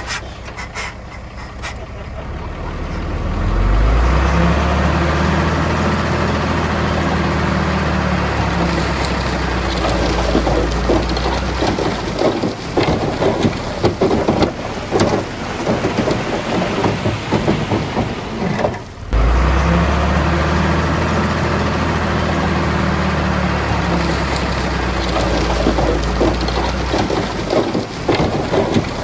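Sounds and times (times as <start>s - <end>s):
bulldozer low rumble: 0.0s - 29.0s
diesel engine drone: 0.0s - 29.0s
rock and soil clattering: 2.4s - 29.0s.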